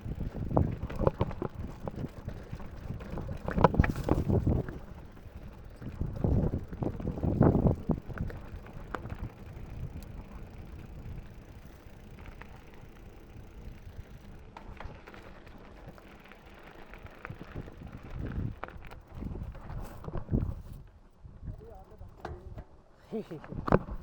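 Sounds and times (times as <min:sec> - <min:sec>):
wind rumbling on microphone: 0:00.0 - 0:16.1, 0:17.0 - 0:22.6
bike clicks and rattles: 0:00.0 - 0:24.0.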